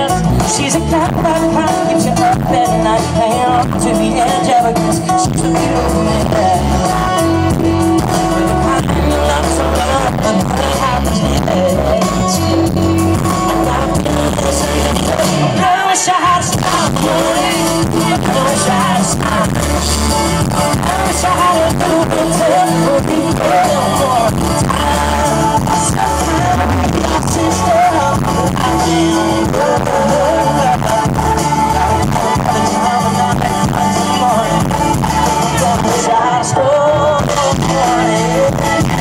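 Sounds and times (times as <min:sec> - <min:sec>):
live band music: 0:00.0 - 0:39.0
man singing: 0:00.0 - 0:39.0.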